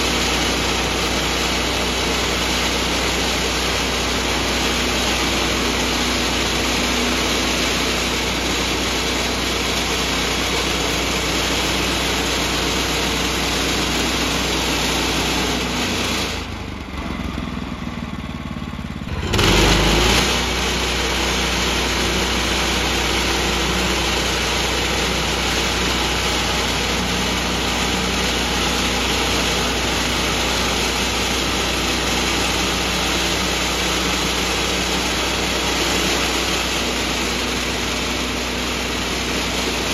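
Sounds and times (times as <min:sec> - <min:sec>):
band sawmill cutting log: 0:00.0 - 0:17.8, 0:19.0 - 0:39.9.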